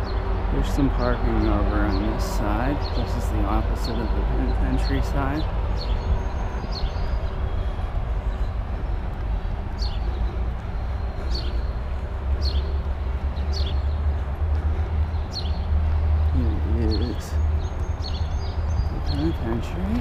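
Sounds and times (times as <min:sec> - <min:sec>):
bird chirping: 0:00.0 - 0:20.0
steady low rumble: 0:00.0 - 0:20.0.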